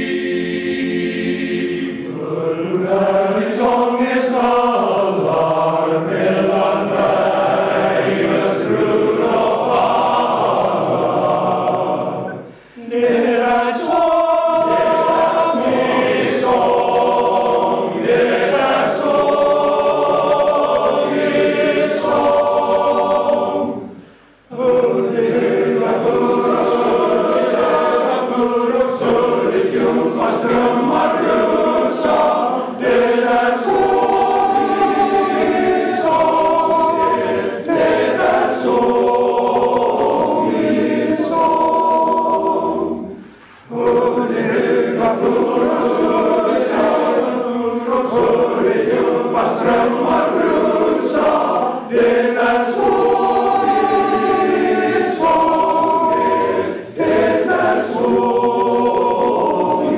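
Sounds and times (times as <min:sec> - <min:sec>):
male choir singing a cappella: 0:00.0 - 0:59.9.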